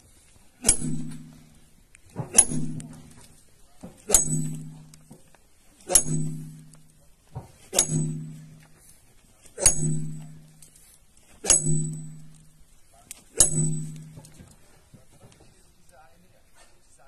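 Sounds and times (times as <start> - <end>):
sledgehammer striking steel wedges: 0.5 - 14.6.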